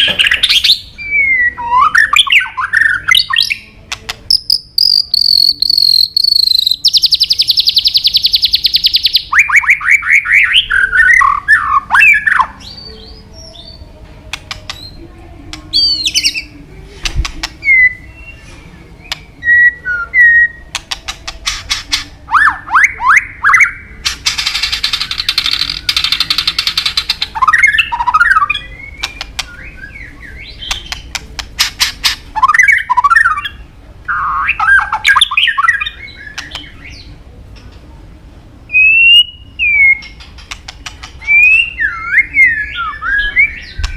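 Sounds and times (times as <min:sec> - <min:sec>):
songbird singing varied phrases: 0:00.0 - 0:16.7, 0:17.4 - 0:21.1, 0:21.9 - 0:37.2, 0:38.6 - 0:43.9.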